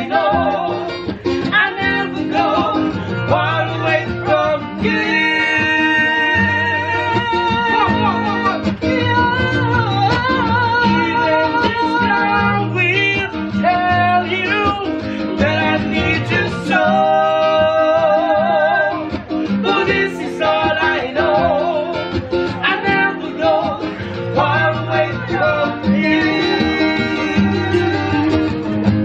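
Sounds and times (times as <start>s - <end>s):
acoustic guitar: 0.0s - 29.0s
men singing: 0.0s - 29.0s.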